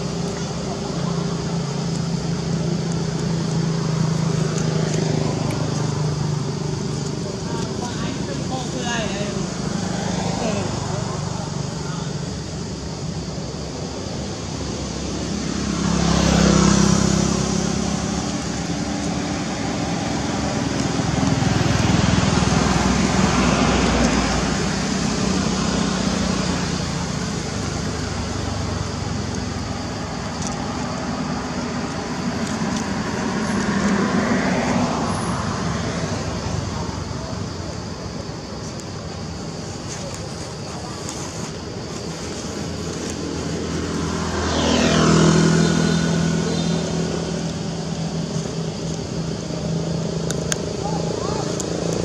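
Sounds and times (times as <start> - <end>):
vehicles driving past: 0.0 - 52.0.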